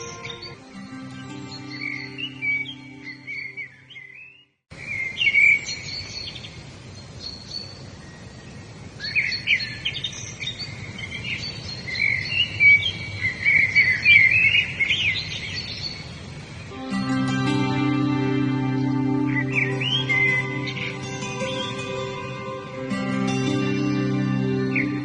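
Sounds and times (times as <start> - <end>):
songbirds chirping and warbling: 0.0 - 25.0
steady background hiss: 4.7 - 25.0.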